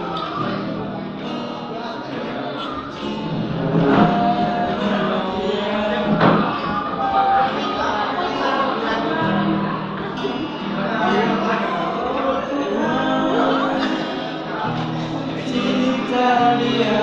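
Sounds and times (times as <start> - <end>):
guitar music: 0.0 - 17.0
person singing: 3.0 - 17.0.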